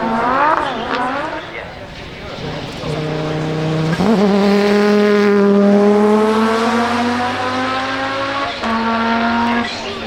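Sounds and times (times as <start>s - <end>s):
race car engine under load: 0.0s - 10.0s.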